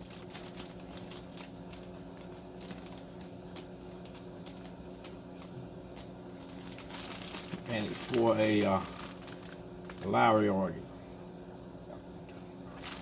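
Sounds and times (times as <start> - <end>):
plastic bag rustling: 0.0 - 10.7, 12.7 - 13.0
low electrical hum: 0.0 - 13.0.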